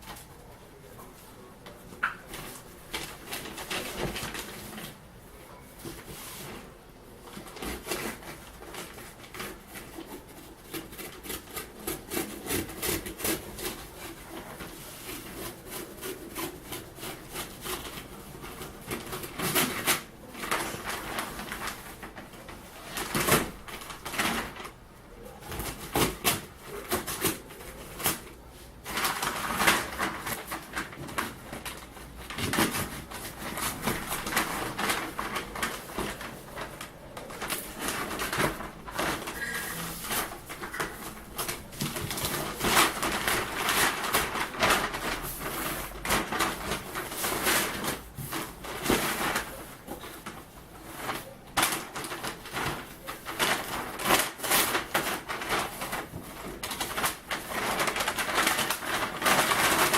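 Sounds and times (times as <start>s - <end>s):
packaging rustling: 5.8s - 59.9s.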